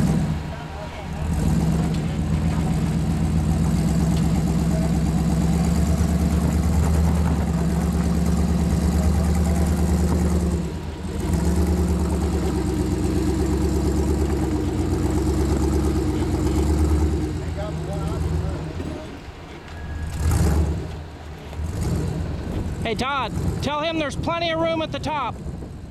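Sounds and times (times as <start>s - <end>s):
engine running at low speed: 0.0s - 25.9s.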